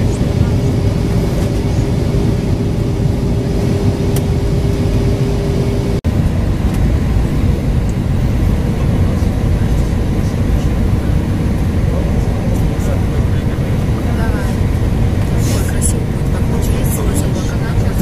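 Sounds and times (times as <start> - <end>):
jet engine and airflow rumble: 0.0 - 18.0
low steady hum: 0.0 - 18.0.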